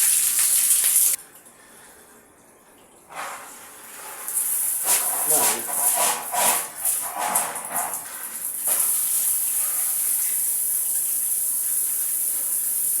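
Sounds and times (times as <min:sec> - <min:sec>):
tap water running: 0:00.0 - 0:01.2, 0:03.0 - 0:13.0.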